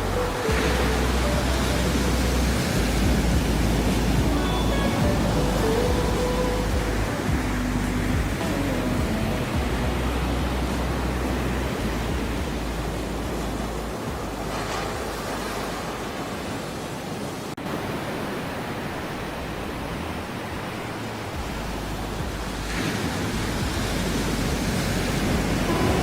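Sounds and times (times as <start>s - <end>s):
ocean waves washing: 0.0s - 26.0s.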